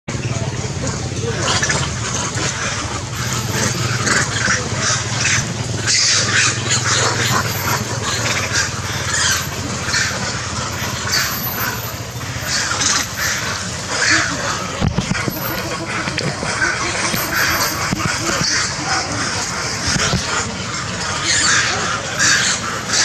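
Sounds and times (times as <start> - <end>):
animals calling high: 0.1 - 23.0.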